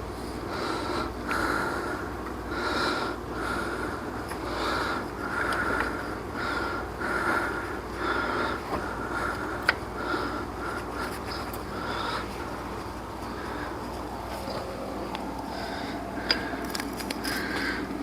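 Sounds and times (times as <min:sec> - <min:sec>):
person breathing hard through nose: 0:00.2 - 0:18.0.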